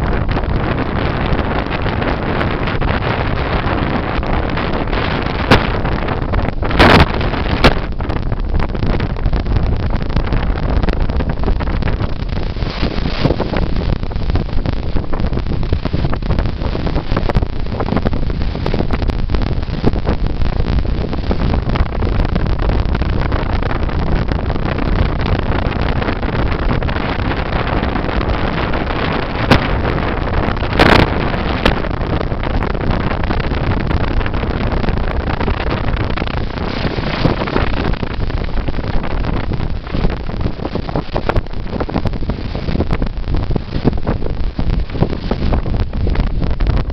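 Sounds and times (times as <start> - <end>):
sea waves washing onto beach: 0.0 - 46.9
sharp crackle: 0.0 - 46.9
wind buffeting microphone: 0.0 - 46.9.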